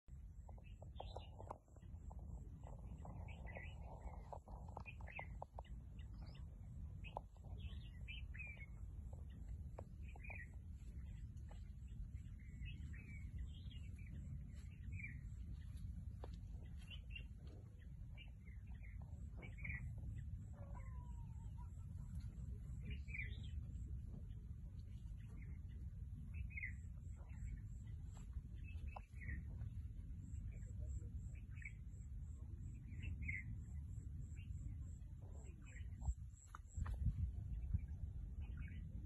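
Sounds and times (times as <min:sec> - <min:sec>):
steady low rumble: 0:00.0 - 0:39.0
small birds chirping: 0:00.1 - 0:39.0.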